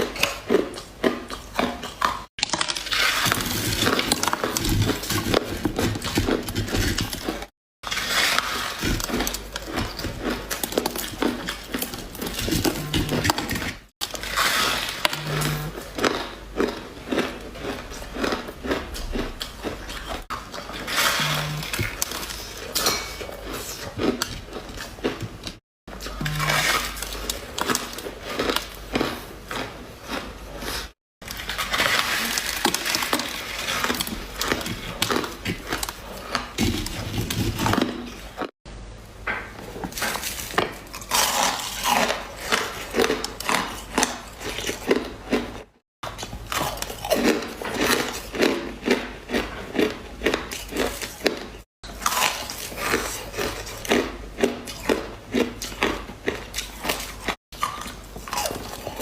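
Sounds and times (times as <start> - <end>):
ice crunching while chewed: 0.0 - 38.5, 39.7 - 59.0.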